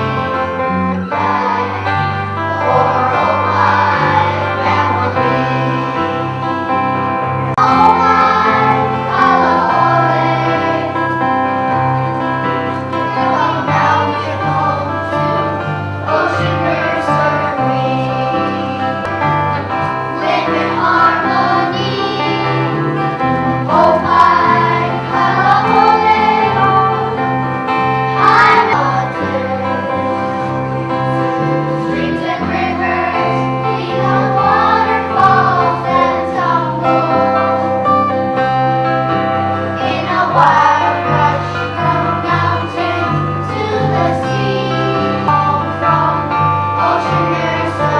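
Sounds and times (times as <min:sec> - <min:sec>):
children singing: 0:00.0 - 0:06.4, 0:07.6 - 0:11.2, 0:13.0 - 0:23.0, 0:23.7 - 0:37.6, 0:39.8 - 0:47.9
instrumental accompaniment: 0:00.0 - 0:47.9.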